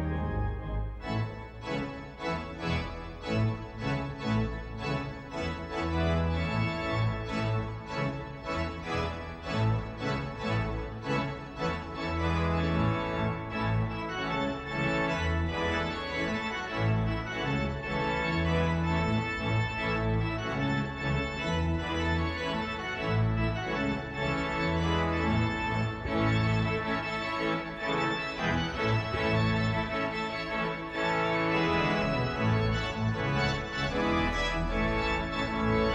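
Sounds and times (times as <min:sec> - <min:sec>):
pipe organ playing chords: 0:00.0 - 0:35.9.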